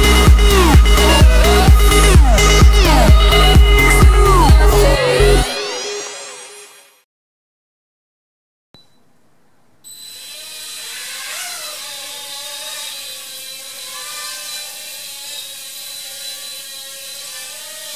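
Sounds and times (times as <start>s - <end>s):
quadcopter motors whining: 0.0s - 6.6s, 9.9s - 17.9s.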